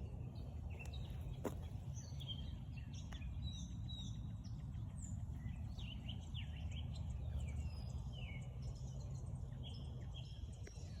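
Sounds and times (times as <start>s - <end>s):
songbirds chirping and calling: 0.0s - 11.0s.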